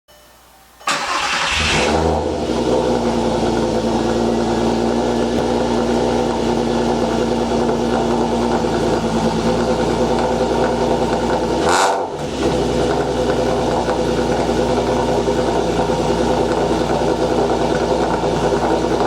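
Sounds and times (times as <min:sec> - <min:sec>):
car engine starting and idling: 0:00.8 - 0:19.0.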